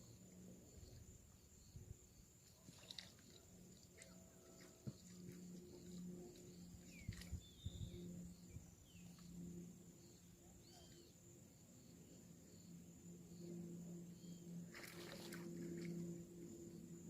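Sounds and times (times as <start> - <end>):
high-pitched insect buzz: 0.0 - 17.0.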